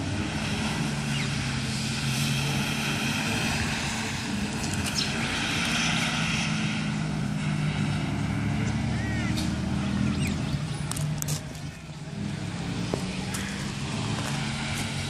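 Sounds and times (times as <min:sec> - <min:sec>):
distant car engine droning: 0:00.0 - 0:15.0.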